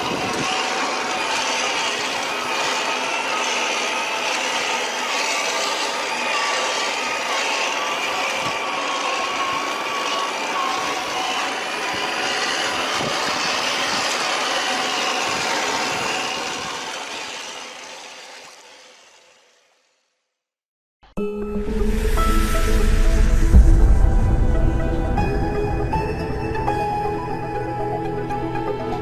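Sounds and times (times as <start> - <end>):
electric motor whining: 0.0 - 19.8, 21.8 - 29.0.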